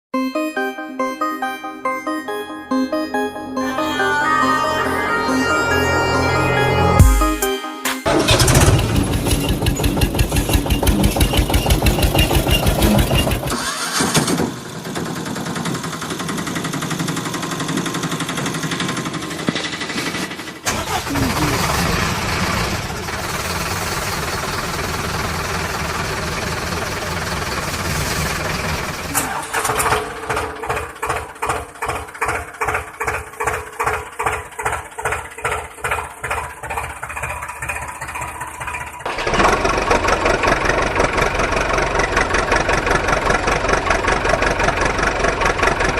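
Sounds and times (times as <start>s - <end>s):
engine chugging: 8.1s - 45.9s.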